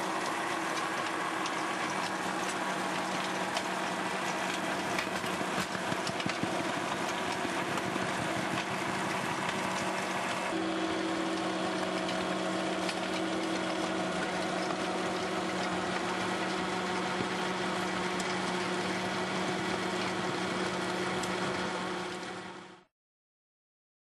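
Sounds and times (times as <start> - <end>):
tractor and implement machine drone: 0.0 - 22.9.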